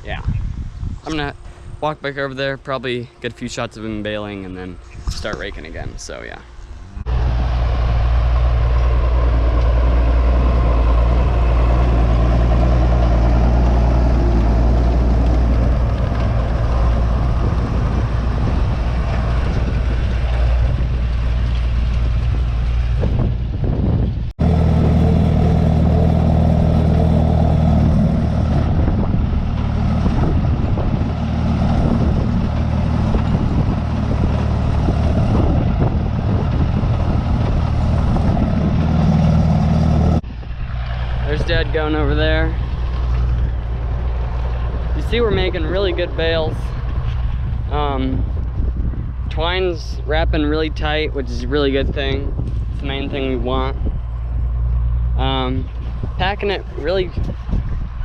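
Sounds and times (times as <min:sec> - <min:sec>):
tractor engine running: 0:04.9 - 0:58.0.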